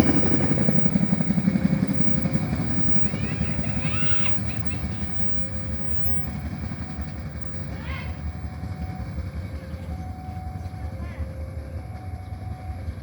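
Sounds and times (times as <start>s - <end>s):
train rumbling along track: 0.0s - 13.0s.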